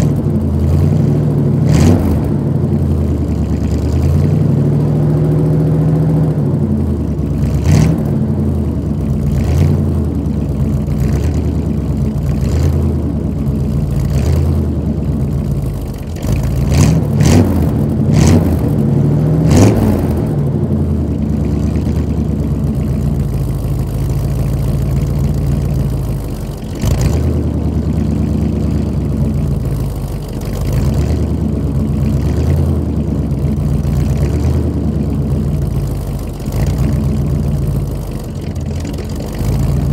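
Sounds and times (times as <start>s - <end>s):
pickup engine idling and revving: 0.0s - 39.9s
sharp exhaust pops: 7.3s - 39.9s.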